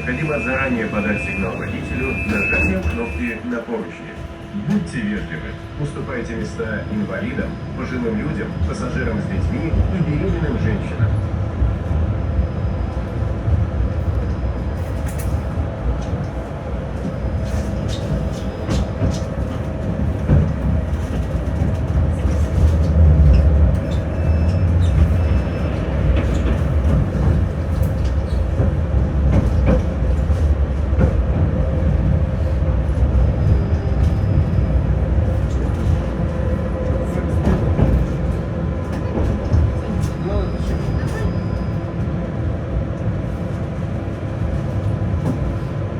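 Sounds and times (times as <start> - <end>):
tram motor tone: 0.0 - 43.2
tram wheels rumbling on rail: 0.0 - 45.9.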